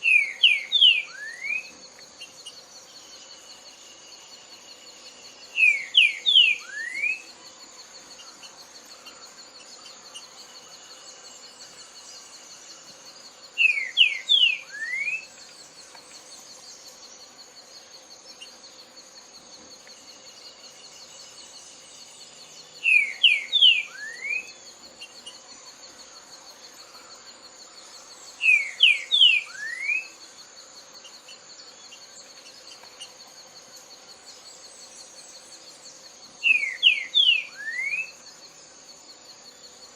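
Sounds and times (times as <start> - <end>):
insect trill: 0.0 - 39.9
songbird singing: 0.0 - 39.9.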